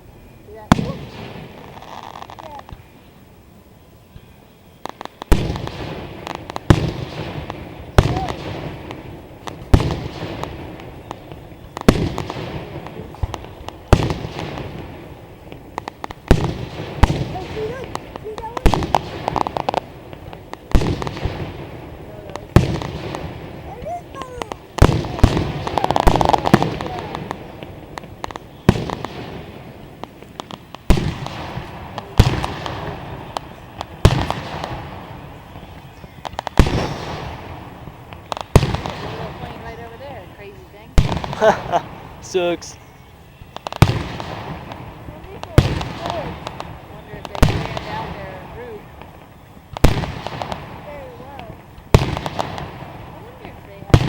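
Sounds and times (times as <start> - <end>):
firework booms: 0.0 - 3.0, 4.1 - 54.0
rolling echo: 0.0 - 54.0
crackling pops: 0.6 - 3.1, 4.8 - 54.0.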